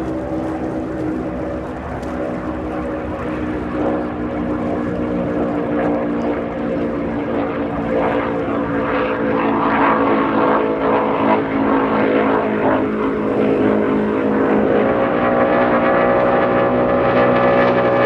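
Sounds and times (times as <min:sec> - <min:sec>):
boat engines running at speed: 0:00.0 - 0:18.0.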